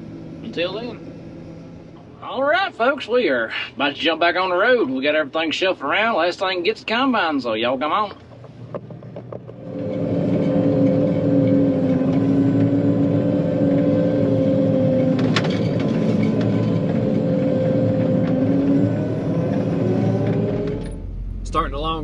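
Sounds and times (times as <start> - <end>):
diesel engine running: 0.0 - 5.3, 8.0 - 22.0.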